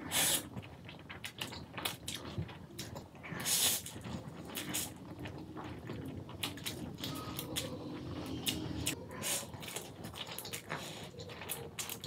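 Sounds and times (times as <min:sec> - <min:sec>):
slurping noodles: 0:00.0 - 0:12.0
wet chewing and lip smacking: 0:00.2 - 0:12.0.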